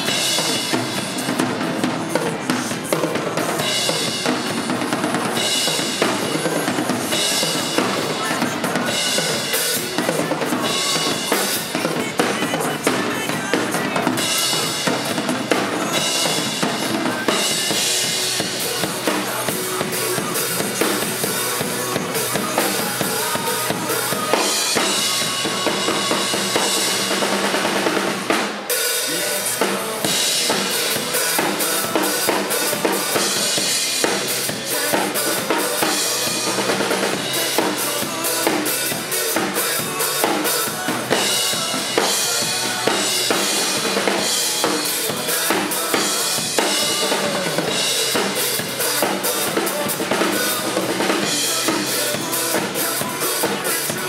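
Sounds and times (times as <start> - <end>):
band backing track: 0.0 - 54.0
drum kit played hard: 0.0 - 54.0.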